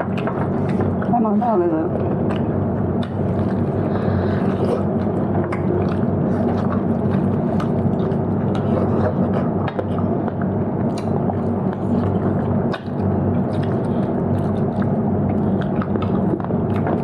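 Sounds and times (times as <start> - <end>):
steady low hum: 0.0 - 17.0
person chewing: 2.0 - 17.0.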